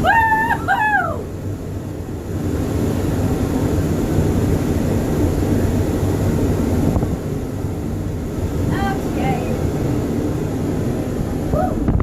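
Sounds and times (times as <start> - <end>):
fans blowing loud wind: 0.0 - 12.0.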